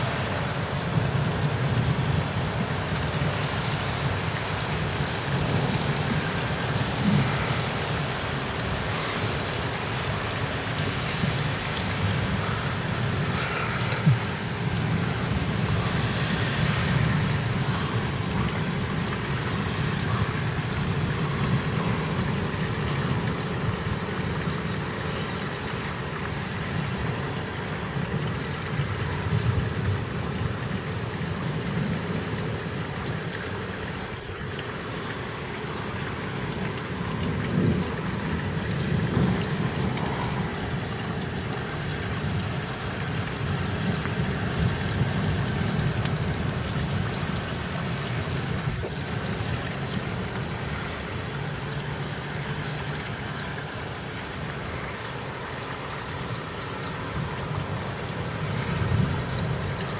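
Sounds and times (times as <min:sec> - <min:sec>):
heavy rain falling: 0:00.0 - 0:59.9
water running and pouring: 0:00.0 - 0:59.9.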